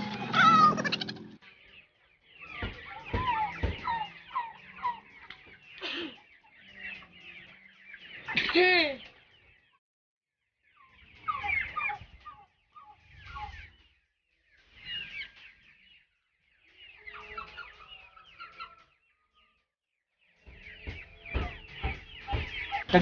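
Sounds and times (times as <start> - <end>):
chicks peeping: 0.0 - 9.8, 10.7 - 23.0.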